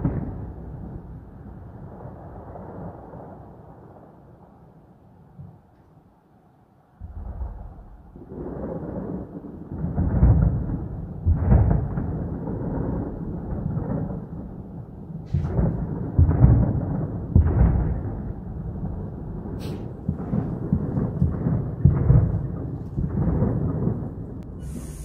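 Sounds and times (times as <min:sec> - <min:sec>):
deep rolling thunder rumble: 0:00.0 - 0:04.9, 0:07.0 - 0:25.0.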